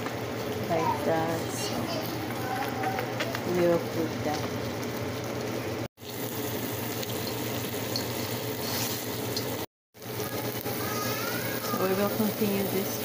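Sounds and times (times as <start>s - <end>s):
chicken wings sizzling in oil: 0.0s - 13.0s.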